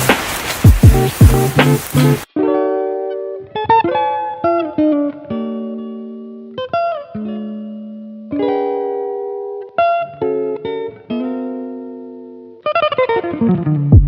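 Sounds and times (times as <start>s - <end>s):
clean electric guitar: 0.7s - 14.0s.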